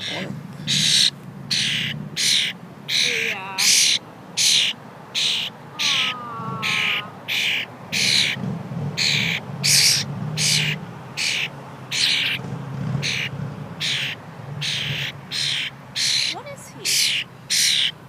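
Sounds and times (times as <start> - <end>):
bird giving harsh begging calls: 0.0 - 8.4, 9.0 - 12.4, 13.0 - 18.0.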